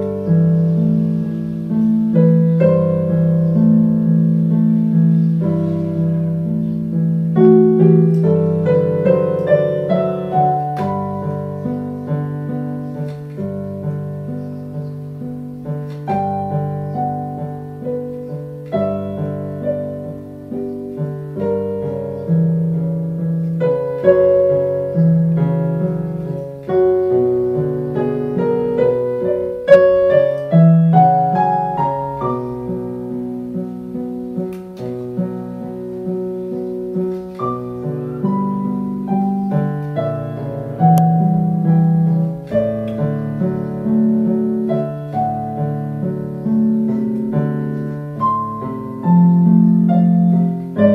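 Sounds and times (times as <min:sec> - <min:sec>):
electronic keyboard piano piece: 0:00.0 - 0:50.9.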